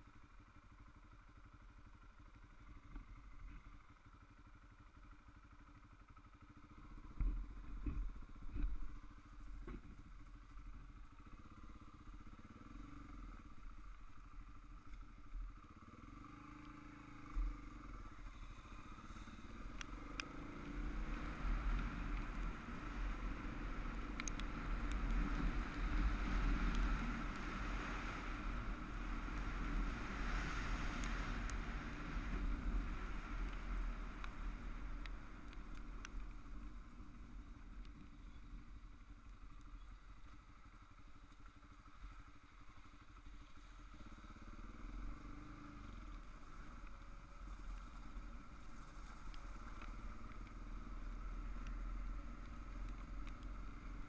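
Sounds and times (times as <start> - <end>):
motorcycle engine running: 0.0 - 54.0
wind and tyre noise: 0.0 - 54.0
gravel ticking: 1.8 - 54.0.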